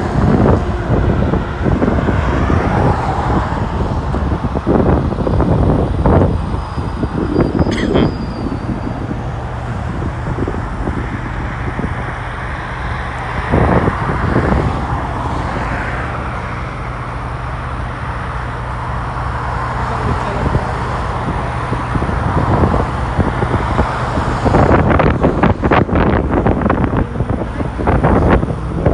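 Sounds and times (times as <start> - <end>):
road traffic noise: 0.0 - 28.9
wind buffeting microphone: 0.0 - 28.9.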